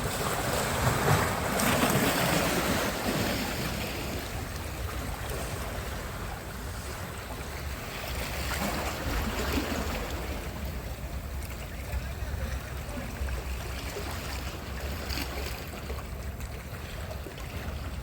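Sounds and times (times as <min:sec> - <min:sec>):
waves washing onto beach: 0:00.0 - 0:18.0.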